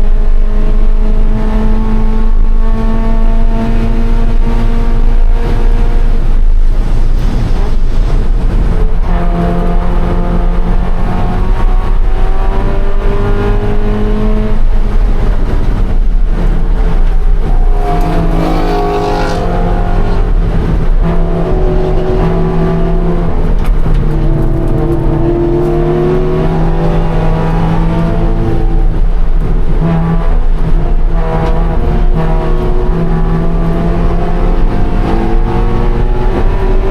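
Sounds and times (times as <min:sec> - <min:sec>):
car engine revving under load: 0:00.0 - 0:36.9.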